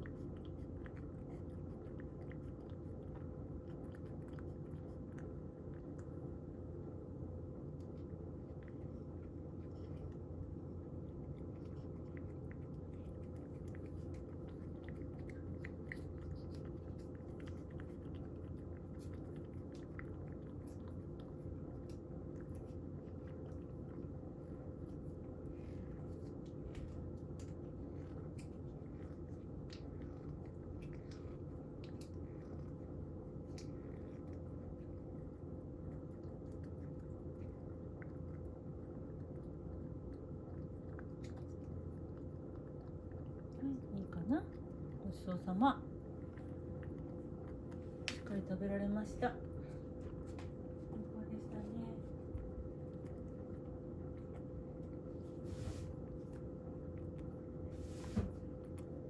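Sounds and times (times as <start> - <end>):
cat chewing dry kibble: 0.0 - 59.0
steady low hum: 0.0 - 59.0.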